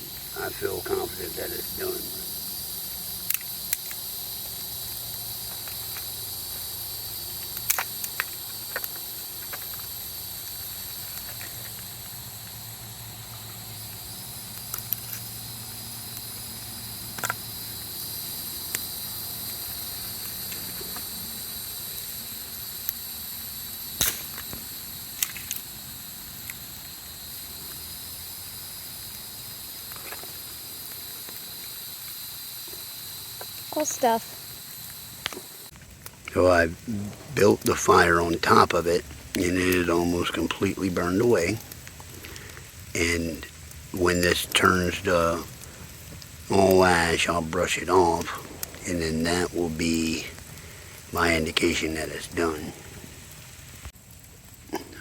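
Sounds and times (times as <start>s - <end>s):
campfire popping and crackling: 0.0s - 55.0s
high-pitched hiss: 0.0s - 55.0s.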